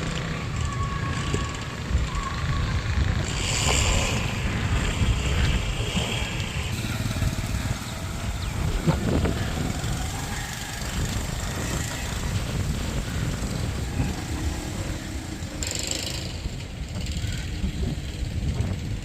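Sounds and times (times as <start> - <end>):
storm wind gusting on microphone: 0.0 - 19.0.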